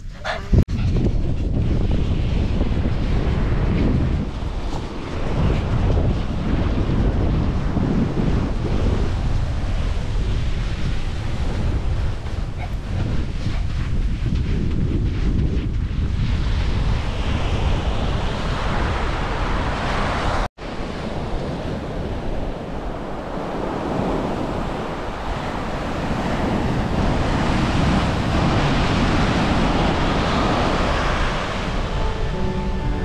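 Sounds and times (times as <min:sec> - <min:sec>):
wind buffeting microphone: 0:00.0 - 0:33.0
ocean surf on beach: 0:01.5 - 0:33.0.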